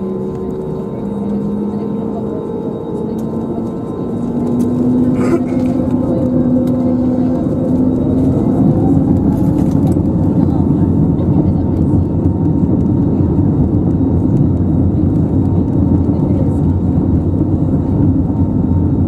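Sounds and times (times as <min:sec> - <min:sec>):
jet engines hum in cabin: 0:00.0 - 0:19.0.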